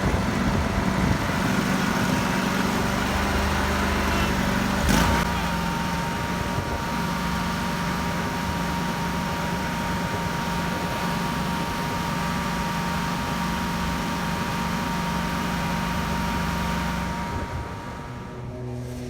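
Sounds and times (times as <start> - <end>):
small petrol engine whining: 0.0 - 19.0.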